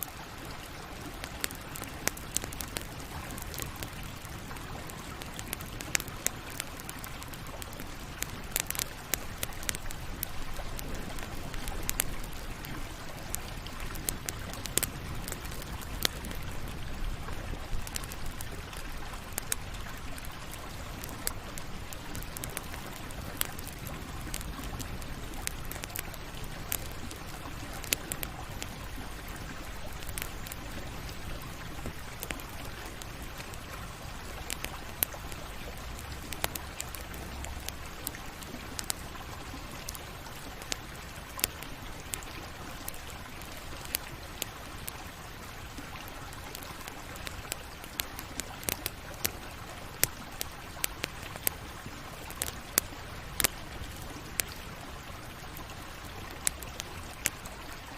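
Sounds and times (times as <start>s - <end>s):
campfire hissing: 0.0s - 57.9s
fire crackles and pops: 0.0s - 57.9s.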